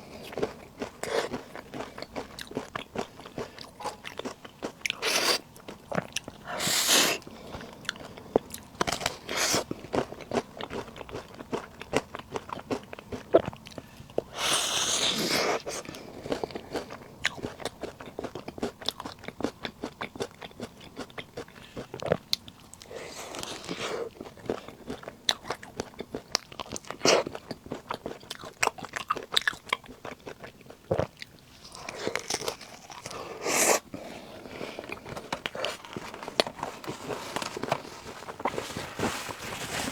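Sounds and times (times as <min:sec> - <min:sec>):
chewing crunchy snacks: 0:00.0 - 0:38.6.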